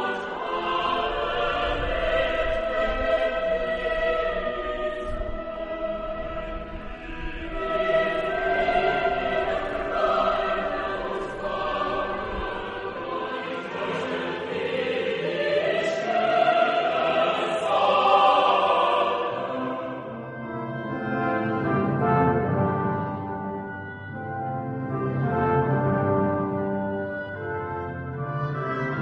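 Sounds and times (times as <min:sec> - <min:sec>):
choir singing long held notes: 0:00.0 - 0:29.0.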